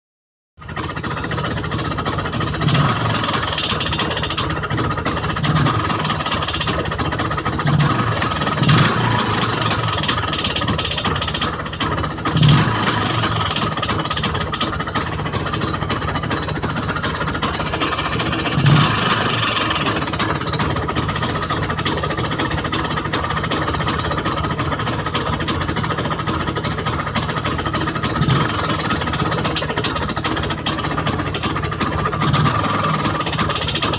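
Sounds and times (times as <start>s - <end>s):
motorcycle engine knocking: 0.6s - 33.9s.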